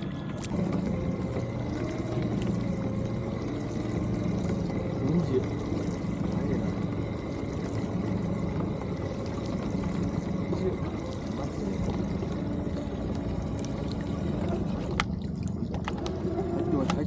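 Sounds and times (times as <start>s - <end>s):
boat motor humming: 0.0s - 17.0s
water pouring and trickling: 0.0s - 17.0s.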